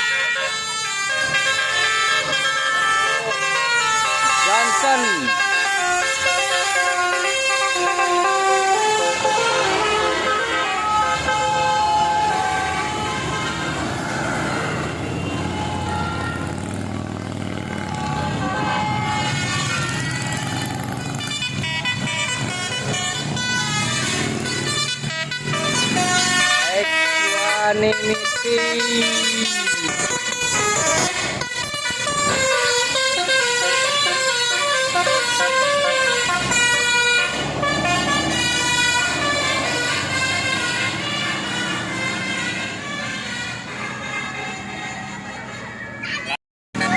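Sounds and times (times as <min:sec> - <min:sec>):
musical air horns playing a tune: 0:00.0 - 0:16.8, 0:17.6 - 0:45.7.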